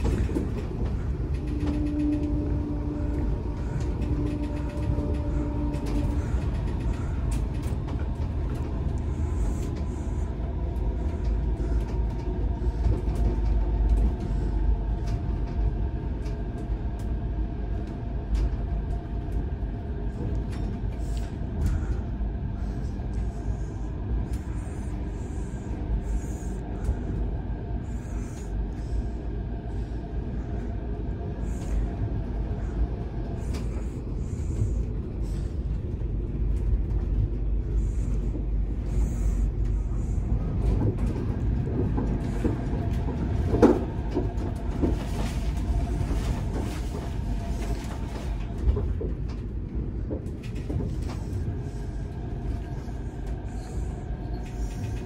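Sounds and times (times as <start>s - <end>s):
monorail low rumble: 0.0s - 55.0s.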